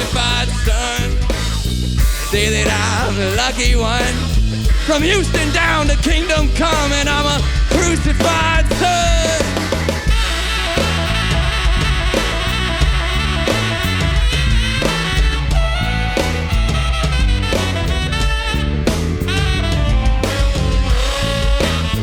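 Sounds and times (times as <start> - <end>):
bending lead guitar melody: 0.0 - 22.0
drum kit: 0.0 - 22.0
live rock band playing: 0.0 - 22.0.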